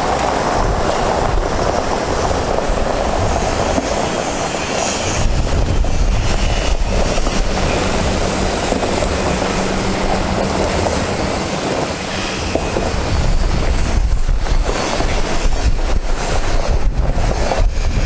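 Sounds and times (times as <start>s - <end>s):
diesel truck engine rumbling: 0.0s - 18.0s.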